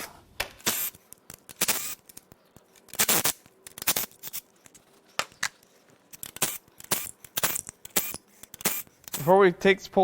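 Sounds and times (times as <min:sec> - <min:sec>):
hand tools clicking and scraping: 0:00.6 - 0:09.4.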